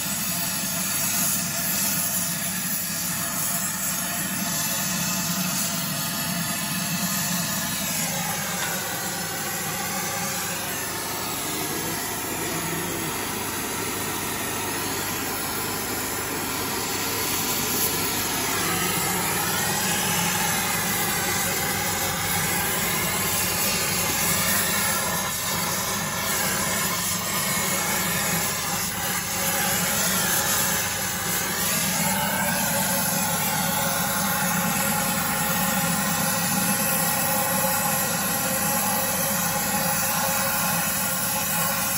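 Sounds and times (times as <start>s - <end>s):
torch flame hissing: 0.0s - 41.9s.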